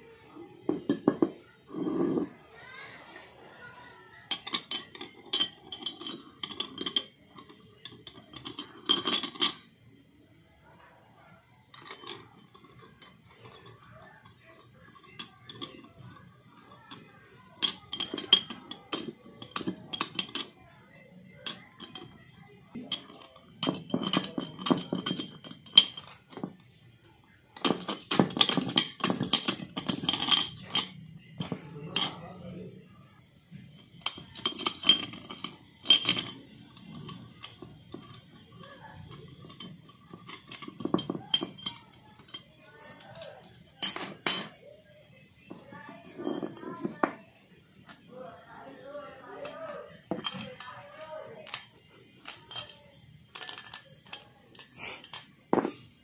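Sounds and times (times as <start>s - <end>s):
metal clinks and knocks on concrete: 0.4s - 2.8s, 3.6s - 48.2s, 48.8s - 56.0s.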